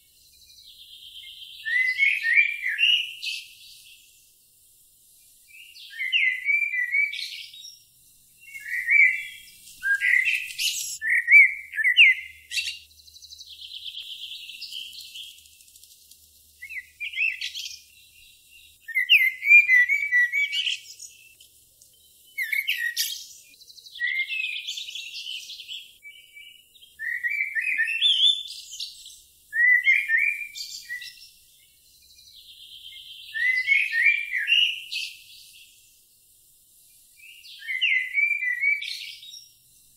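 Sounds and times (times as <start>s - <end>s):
songbird chirping warbled phrases: 0.0s - 39.6s.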